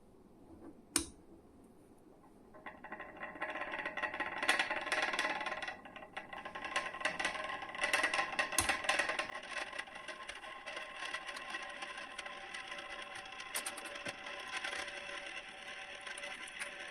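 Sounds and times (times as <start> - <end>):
glass beaker rattling and clinking: 2.6 - 16.9.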